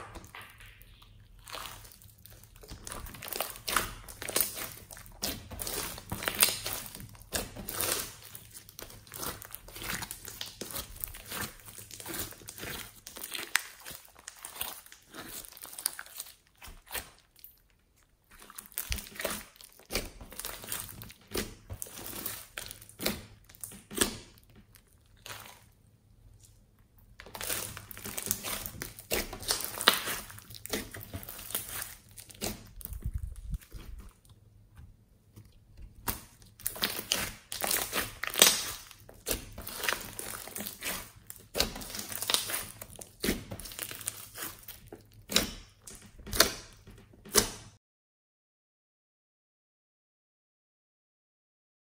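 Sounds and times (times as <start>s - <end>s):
slime crackling and popping: 0.0s - 34.4s, 35.8s - 47.7s.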